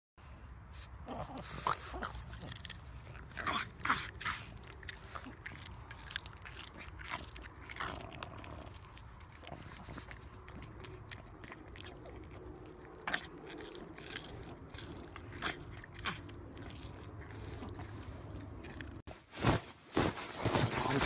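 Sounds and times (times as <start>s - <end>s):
dog crunching a carrot: 0.8s - 19.1s.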